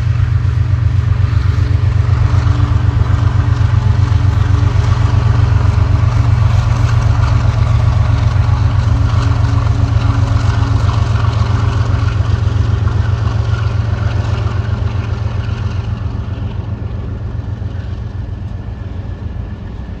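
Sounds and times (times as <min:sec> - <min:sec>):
freight train rumbling past: 0:00.0 - 0:20.0
low hum: 0:00.0 - 0:20.0.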